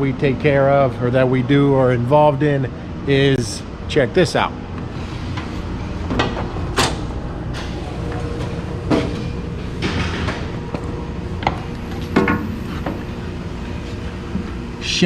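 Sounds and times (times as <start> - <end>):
steady machine drone: 0.0 - 15.0.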